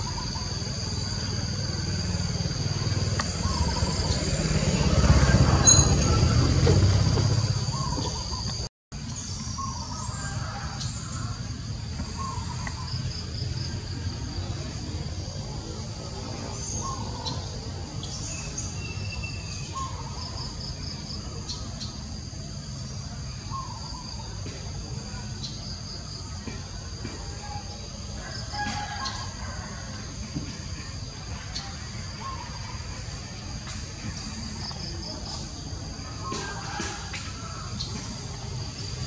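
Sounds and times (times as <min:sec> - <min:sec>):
high-pitched insect drone: 0:00.0 - 0:36.2.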